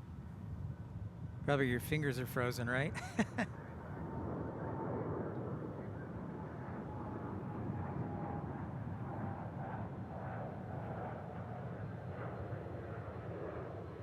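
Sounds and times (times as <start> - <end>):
distant jet engines rumbling: 0.1 - 14.0.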